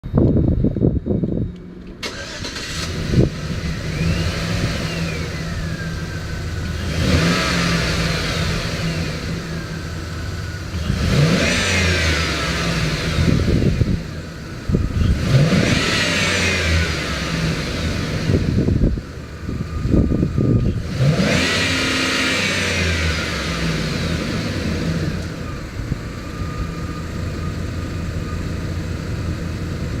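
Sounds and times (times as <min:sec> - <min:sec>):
van engine idling and revving: 0:00.0 - 0:30.0.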